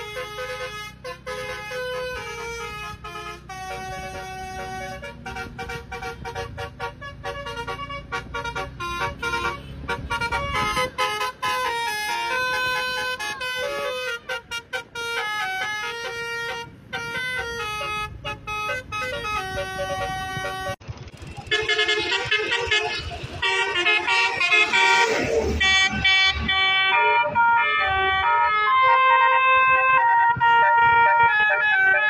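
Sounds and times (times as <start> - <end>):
bus horn playing melody: 0.0 - 20.8, 21.5 - 32.0
bus engine running: 0.0 - 32.0.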